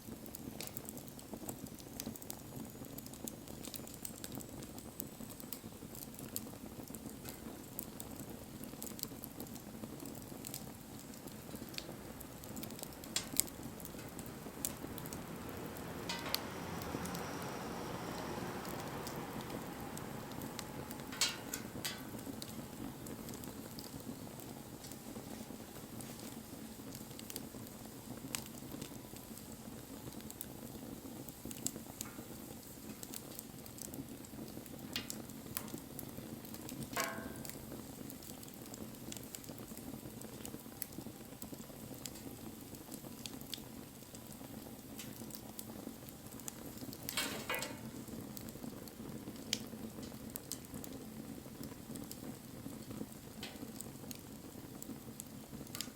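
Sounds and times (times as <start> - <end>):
bonfire flames rushing: 0.0 - 55.9
fire crackling and popping: 0.0 - 55.9.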